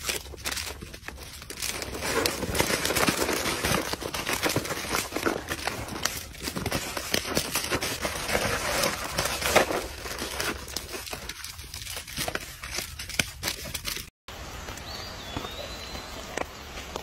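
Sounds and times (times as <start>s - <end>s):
cardboard scraping: 0.0s - 14.1s
plastic packets crinkling: 0.0s - 14.1s
faint outdoor background: 0.0s - 17.0s.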